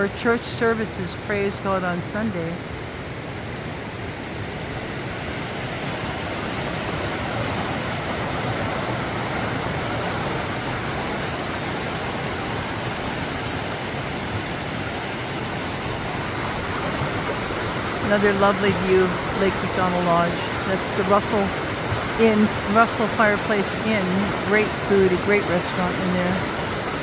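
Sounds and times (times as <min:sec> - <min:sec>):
mountain creek rushing: 0:00.0 - 0:27.0.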